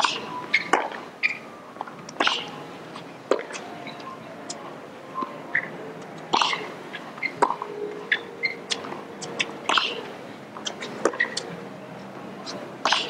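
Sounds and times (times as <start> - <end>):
low crowd hum: 0.0 - 13.0.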